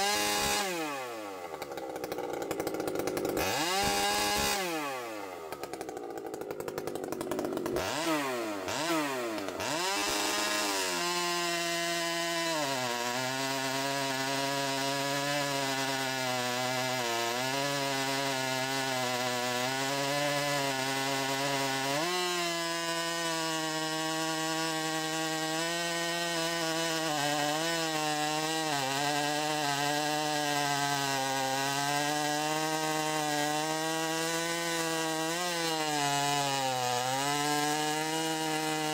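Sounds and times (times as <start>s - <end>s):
chainsaw cutting through log: 0.0s - 38.9s
chainsaw revving: 0.0s - 38.9s.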